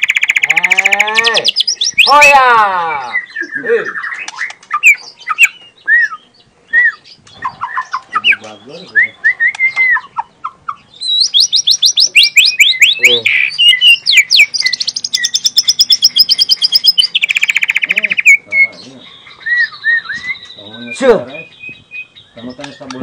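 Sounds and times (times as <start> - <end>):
songbird singing: 0.0 - 23.0.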